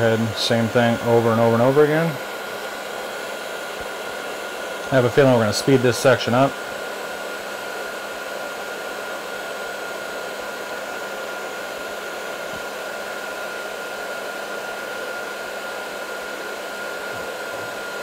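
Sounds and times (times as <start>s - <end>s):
heat gun fan and airflow: 0.0s - 18.0s
heat gun high whine: 0.0s - 18.0s.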